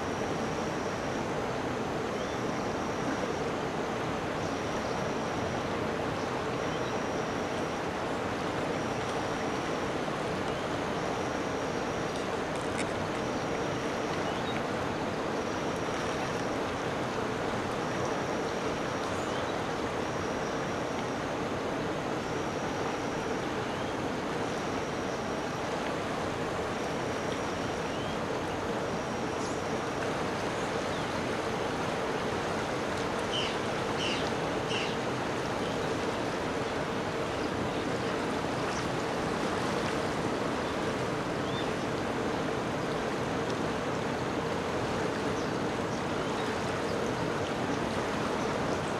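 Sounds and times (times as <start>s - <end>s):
flowing river water: 0.0s - 48.9s.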